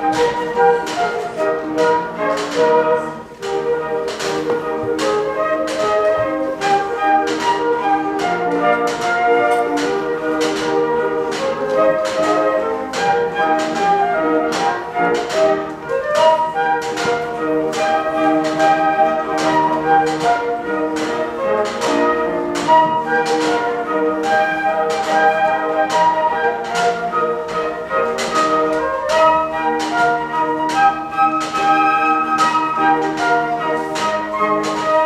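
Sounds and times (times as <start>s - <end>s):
flute ensemble playing: 0.0s - 35.0s
sharp percussive strikes: 0.0s - 35.0s.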